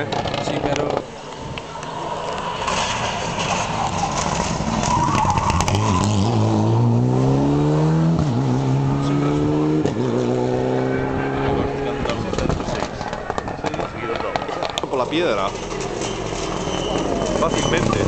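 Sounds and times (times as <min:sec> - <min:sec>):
rally car engine at full throttle: 0:00.0 - 0:18.0.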